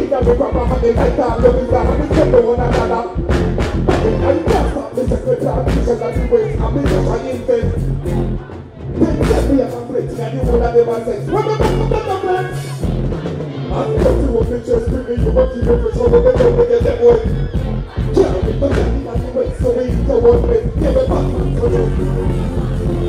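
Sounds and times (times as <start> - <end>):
live reggae band playing: 0.0 - 23.0.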